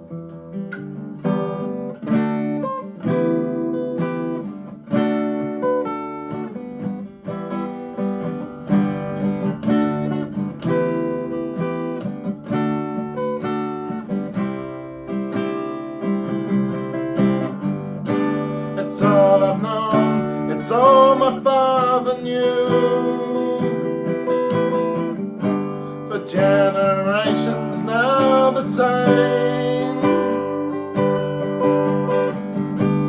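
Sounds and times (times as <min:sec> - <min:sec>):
acoustic guitar strumming and picking: 0:00.0 - 0:33.0.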